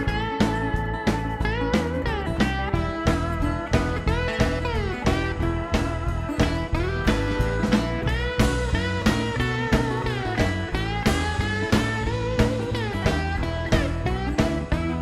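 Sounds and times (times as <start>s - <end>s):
low bass line: 0.0s - 15.0s
plucked guitar notes: 0.0s - 15.0s.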